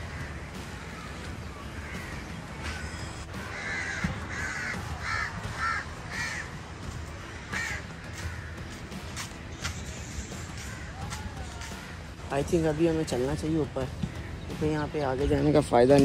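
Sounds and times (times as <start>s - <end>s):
crow cawing: 0.0s - 13.6s.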